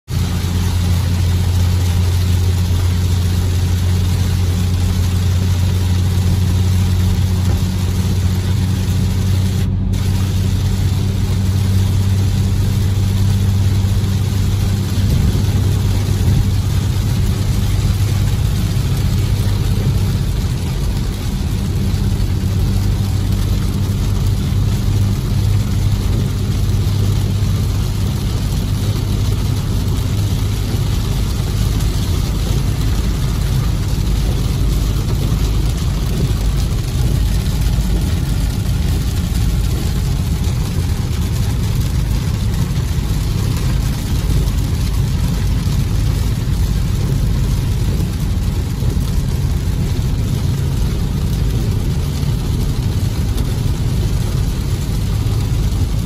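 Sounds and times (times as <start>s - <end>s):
car engine and road drone: 0.0s - 56.0s
rain and tyre spray hiss: 0.0s - 56.0s.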